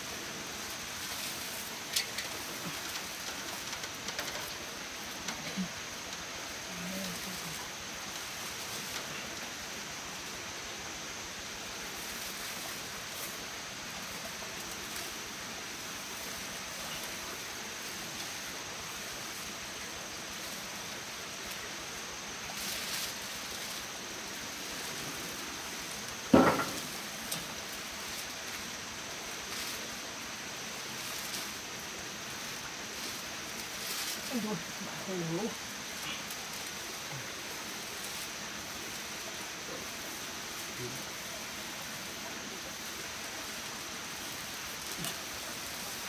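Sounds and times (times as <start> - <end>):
dry rice stalks rustling: 0.0 - 46.0
steady background hiss: 0.0 - 46.0.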